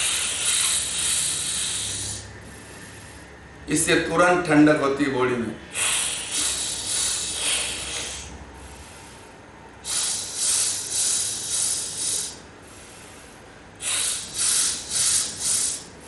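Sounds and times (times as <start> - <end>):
breath hissing through teeth: 0.0 - 3.3, 5.7 - 16.0.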